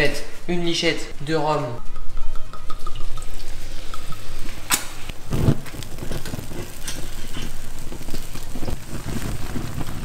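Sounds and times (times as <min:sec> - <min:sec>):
rum sizzling in a frying pan: 0:00.0 - 0:10.0.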